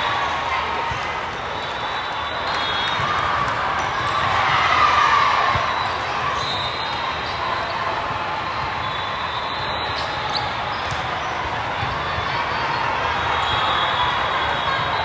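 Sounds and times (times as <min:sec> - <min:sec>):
many voices in echoing hall: 0:00.0 - 0:15.0.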